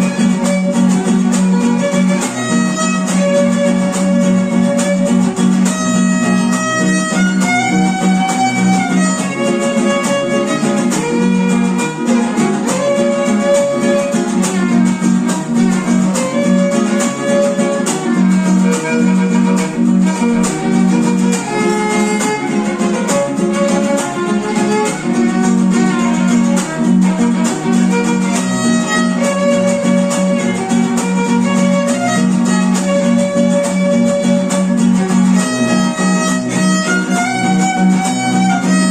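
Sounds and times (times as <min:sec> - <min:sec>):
guitar accompaniment: 0:00.0 - 0:38.9
violin melody: 0:00.0 - 0:38.9.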